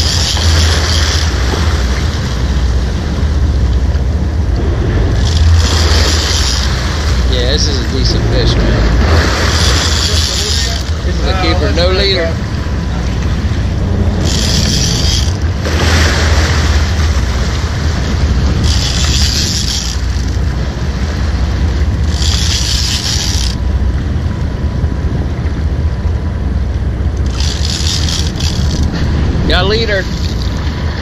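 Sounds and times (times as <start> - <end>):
boat rumble: 0.0 - 31.0
wind buffeting microphone: 0.0 - 31.0.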